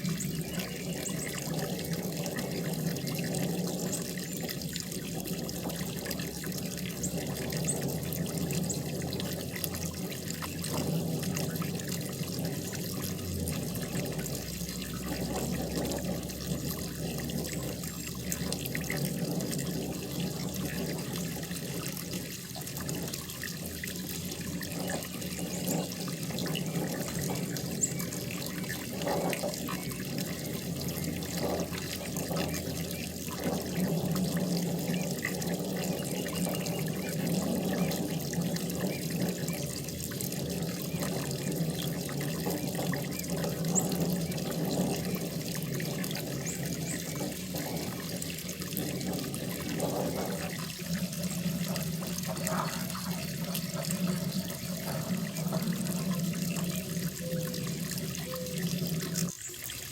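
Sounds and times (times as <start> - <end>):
waterfall gurgling: 0.0 - 59.9.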